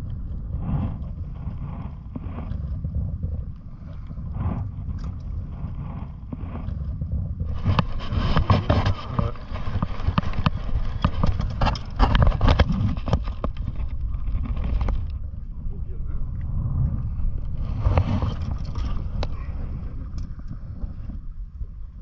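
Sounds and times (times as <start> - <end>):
gear clicking and scraping: 0.0 - 15.3, 17.2 - 20.9
wind rumbling on microphone: 0.0 - 22.0.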